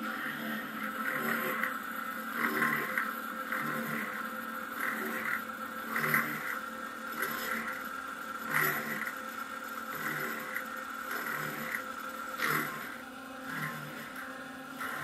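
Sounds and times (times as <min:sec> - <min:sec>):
drill bit cutting friction lining: 0:00.0 - 0:15.0
drill press motor whine: 0:00.0 - 0:15.0.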